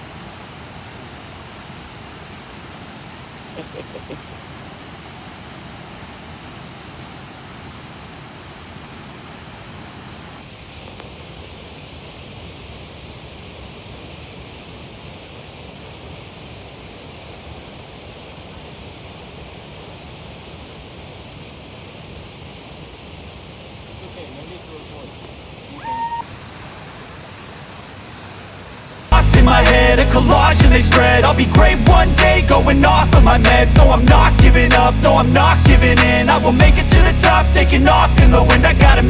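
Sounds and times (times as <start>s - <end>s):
waterfall roaring: 0.0s - 35.6s.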